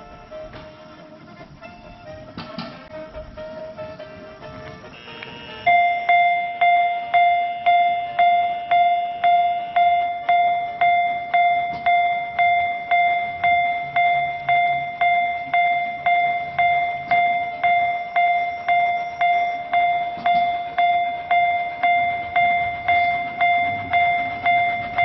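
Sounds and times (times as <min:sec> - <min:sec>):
level-crossing warning bell ringing: 0:00.0 - 0:25.0.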